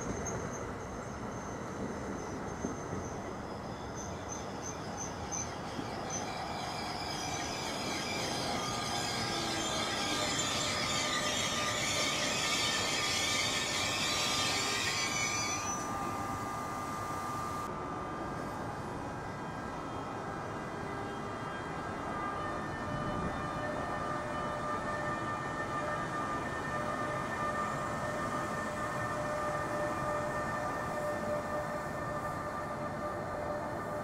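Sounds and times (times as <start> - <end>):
train rumble and rail noise: 0.0 - 34.0.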